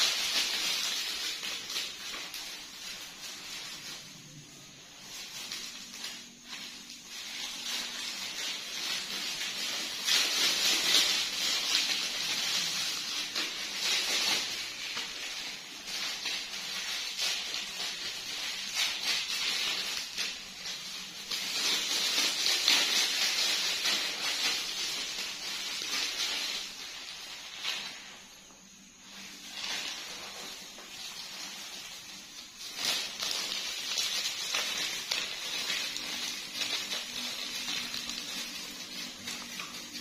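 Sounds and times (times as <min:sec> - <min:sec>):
crinkly rustling hiss: 0:00.0 - 0:40.0.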